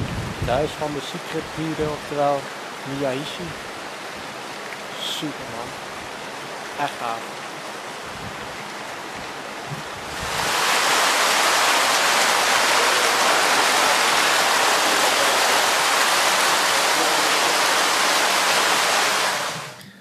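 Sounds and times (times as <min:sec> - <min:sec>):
water gushing from pipes: 0:00.0 - 0:19.8.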